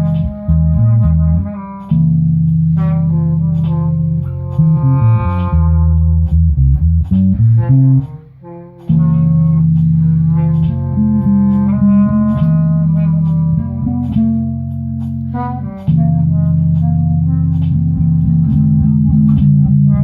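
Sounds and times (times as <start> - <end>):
bass guitar: 0.0 - 20.0.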